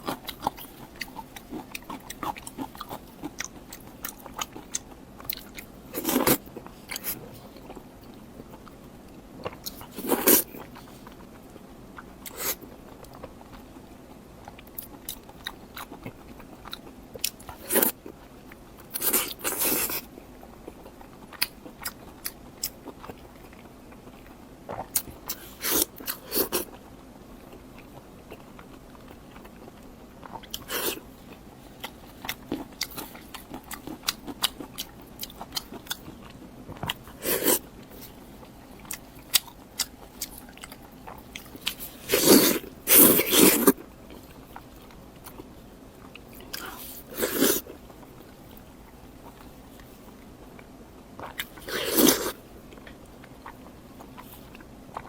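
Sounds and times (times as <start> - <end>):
person eating crunchy food: 0.0 - 8.8, 9.4 - 13.7, 14.5 - 26.8, 27.5 - 55.0.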